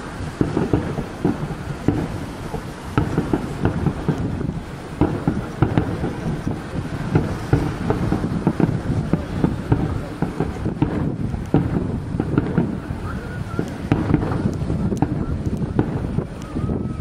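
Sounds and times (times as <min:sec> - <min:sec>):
firework shells bursting: 0:00.0 - 0:17.0
low rumble: 0:00.0 - 0:17.0
wind noise on microphone: 0:00.0 - 0:17.0.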